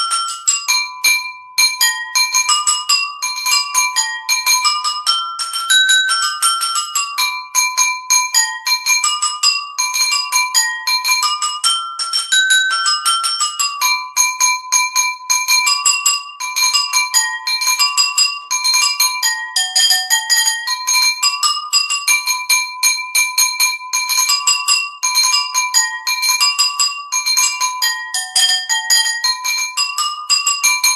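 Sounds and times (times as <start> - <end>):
bell-like ringtone melody: 0.0 - 30.9.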